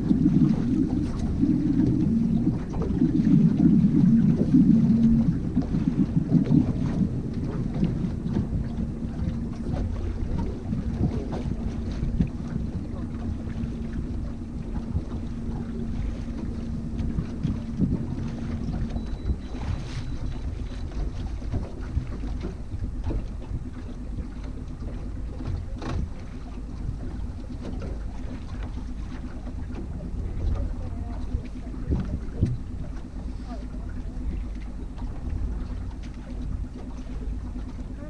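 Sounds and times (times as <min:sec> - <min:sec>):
wind noise on microphone: 0:00.0 - 0:27.9, 0:29.7 - 0:33.0
outboard motor running: 0:00.0 - 0:38.0.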